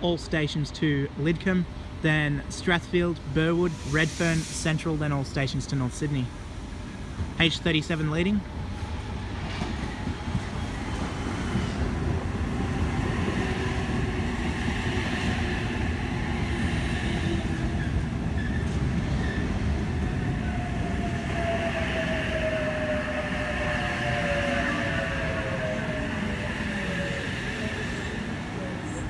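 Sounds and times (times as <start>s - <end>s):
train wheels rumbling: 3.0s - 29.0s.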